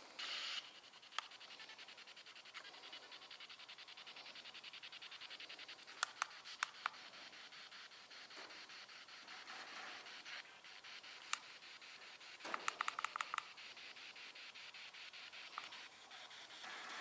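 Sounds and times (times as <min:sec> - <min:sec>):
choppy radio static: 0:00.0 - 0:17.0
sharp clicks: 0:00.2 - 0:17.0.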